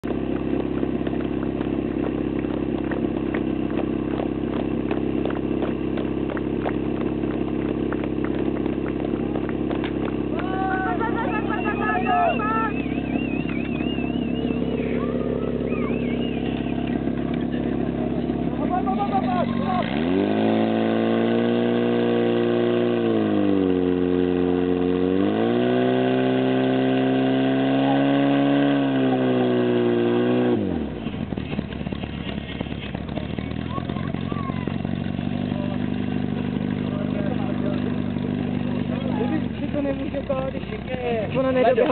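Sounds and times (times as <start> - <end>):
small petrol engine idling: 0.0 - 41.9.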